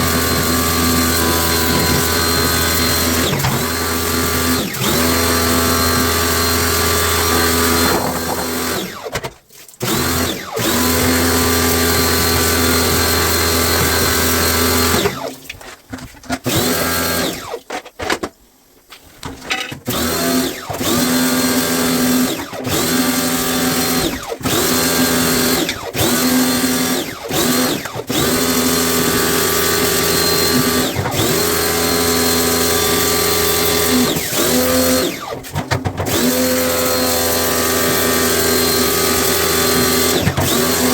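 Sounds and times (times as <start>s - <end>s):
electric drill motor whine: 0.0s - 9.1s, 9.8s - 15.3s, 19.9s - 35.4s, 36.1s - 40.9s.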